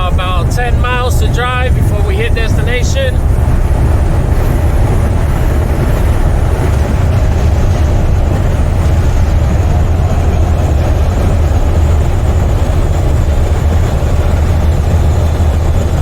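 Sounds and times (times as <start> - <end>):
road noise: 0.0 - 16.0
truck diesel engine running: 0.0 - 16.0.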